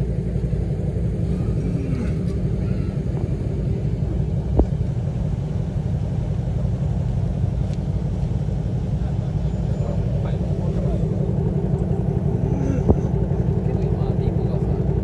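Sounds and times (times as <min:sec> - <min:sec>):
cars low rumble: 0:00.0 - 0:15.0.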